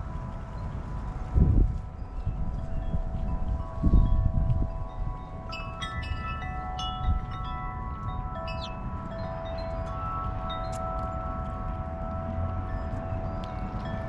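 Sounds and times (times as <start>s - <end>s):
wind chime ringing: 0.0s - 14.0s.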